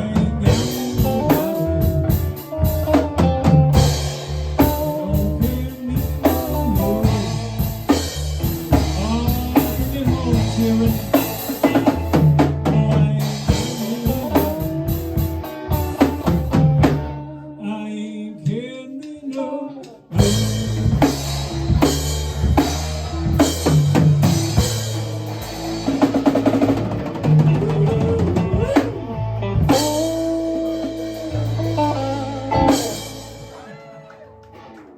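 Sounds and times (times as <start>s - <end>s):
live rock band playing: 0.0s - 17.6s, 19.7s - 34.9s.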